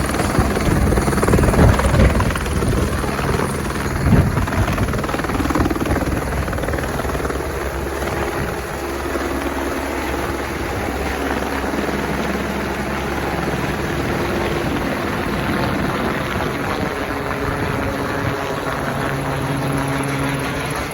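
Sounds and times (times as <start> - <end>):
helicopter running: 0.0 - 20.9.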